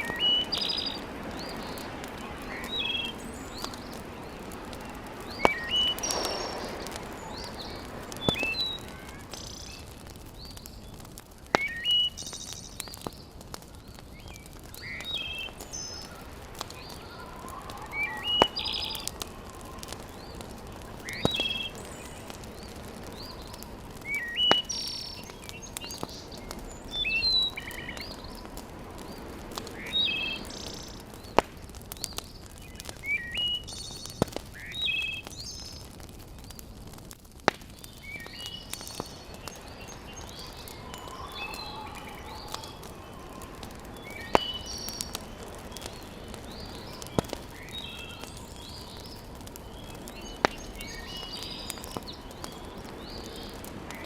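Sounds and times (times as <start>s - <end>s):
bird chirping: 0.0s - 13.2s, 13.8s - 31.4s, 37.9s - 53.6s
wood fire popping: 0.0s - 54.0s.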